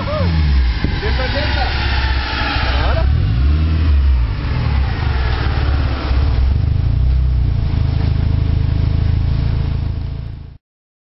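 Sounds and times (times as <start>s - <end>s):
car engine running on dyno: 0.0s - 10.6s.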